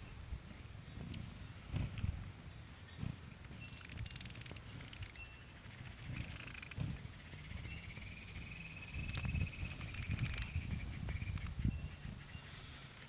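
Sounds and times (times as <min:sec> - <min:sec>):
insects chirring: 0:00.0 - 0:13.0
thin lower insect tone: 0:00.0 - 0:13.0.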